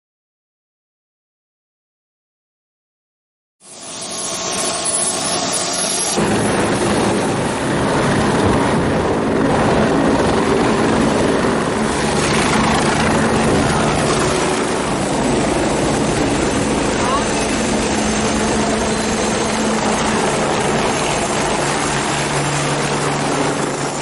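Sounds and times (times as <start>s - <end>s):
military jet engine roar: 3.6s - 24.0s.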